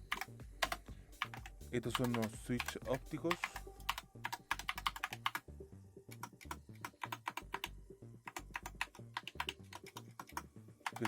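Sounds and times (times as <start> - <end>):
mechanical keyboard typing: 0.0 - 5.4, 6.1 - 7.7, 8.3 - 11.0.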